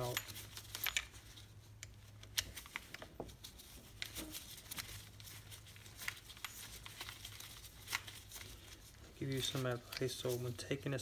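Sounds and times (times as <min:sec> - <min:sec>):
small metal parts handled: 0:00.0 - 0:10.5
low steady hum: 0:00.0 - 0:11.0.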